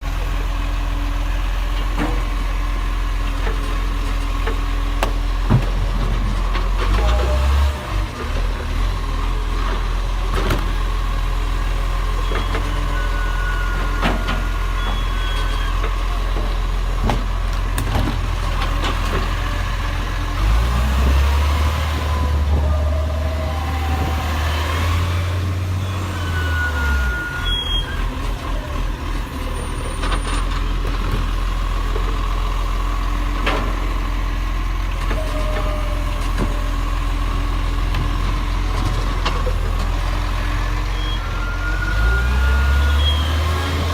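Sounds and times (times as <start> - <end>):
diesel engine humming: 0.0 - 43.9.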